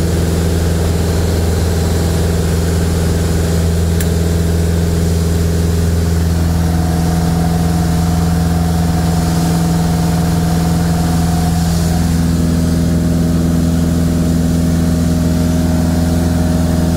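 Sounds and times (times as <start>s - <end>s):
aircraft engine and propeller drone: 0.0s - 16.9s.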